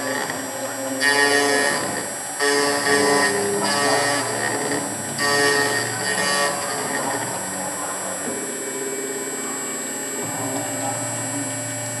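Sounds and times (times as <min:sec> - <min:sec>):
router spindle high whine: 0:00.0 - 0:12.0.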